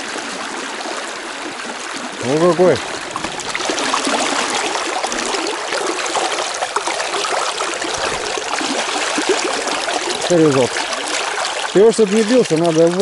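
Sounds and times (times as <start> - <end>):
river current rushing: 0.0 - 13.0
small water splashes: 0.0 - 13.0.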